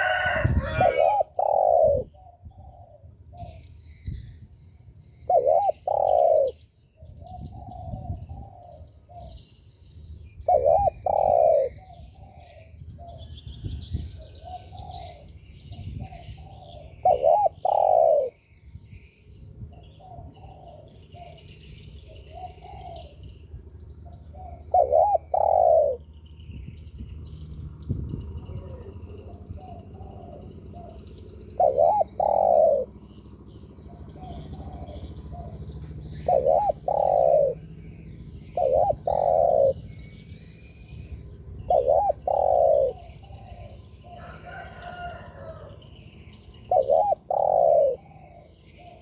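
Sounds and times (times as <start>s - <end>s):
dove cooing: 0.0s - 3.6s, 5.2s - 9.6s, 10.4s - 13.3s, 14.1s - 18.6s, 19.7s - 23.3s, 24.0s - 26.1s, 28.4s - 49.0s.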